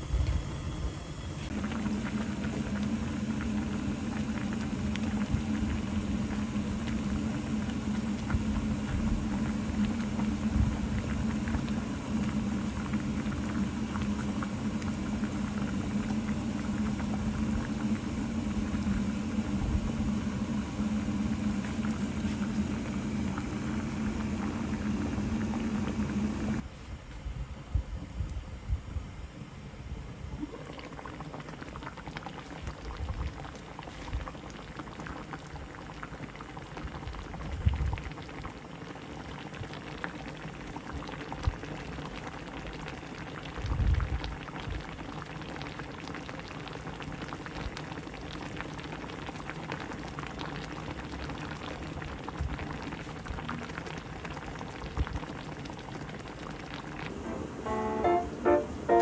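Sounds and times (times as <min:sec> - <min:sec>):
liquid boiling in a pot: 0:00.0 - 0:26.8, 0:27.6 - 0:59.0.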